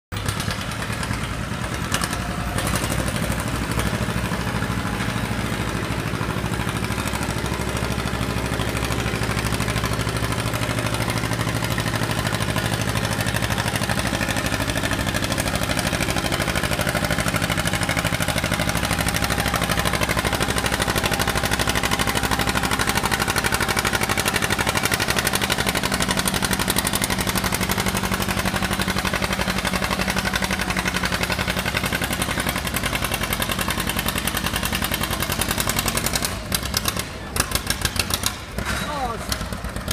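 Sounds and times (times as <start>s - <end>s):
tractor engine under load: 0.1s - 39.9s.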